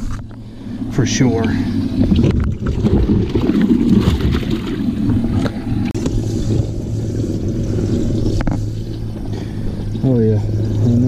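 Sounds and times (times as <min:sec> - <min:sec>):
pump humming: 0:00.0 - 0:11.0
water churning: 0:00.0 - 0:11.0.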